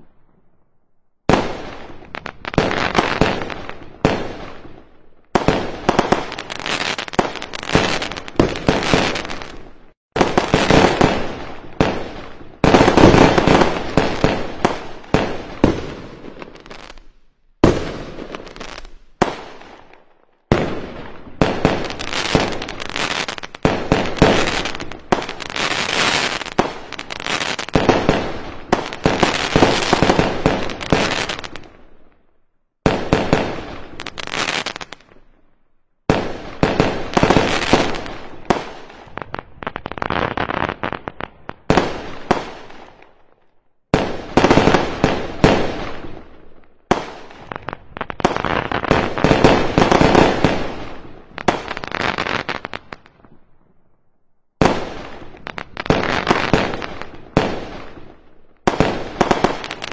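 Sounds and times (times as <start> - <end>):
fireworks bangs and crackles: 1.2 - 53.8, 54.5 - 59.9.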